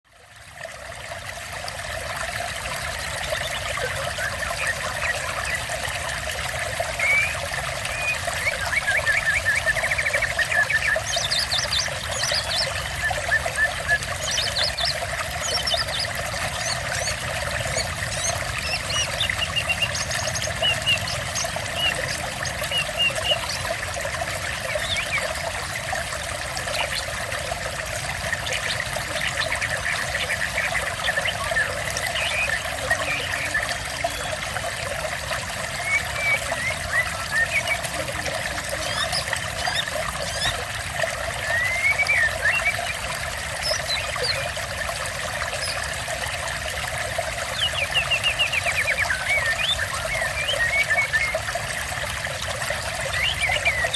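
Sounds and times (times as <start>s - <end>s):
water trickling: 0.1s - 53.9s
small birds chirping and trilling: 2.6s - 46.3s, 47.2s - 52.1s, 52.8s - 53.9s.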